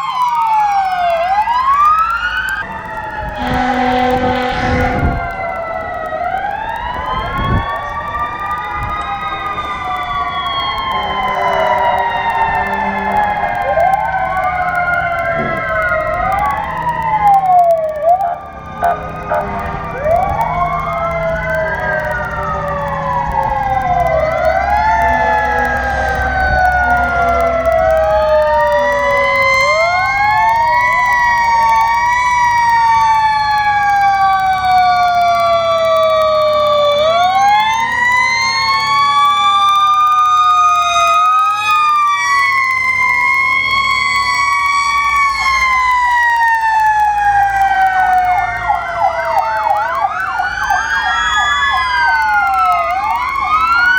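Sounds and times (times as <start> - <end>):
fire truck sirens wailing: 0.0 - 53.9.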